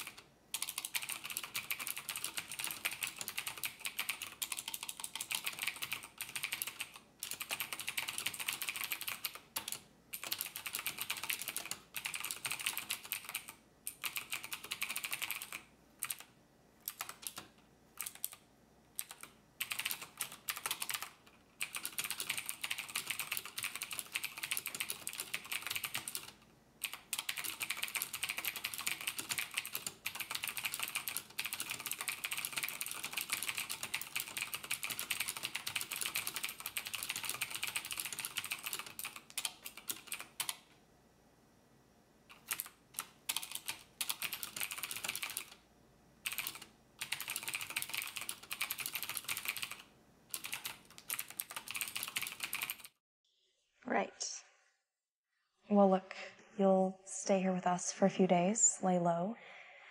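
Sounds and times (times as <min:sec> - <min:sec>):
typing on computer keyboard: 0:00.0 - 0:40.7, 0:42.3 - 0:45.6, 0:46.2 - 0:53.0.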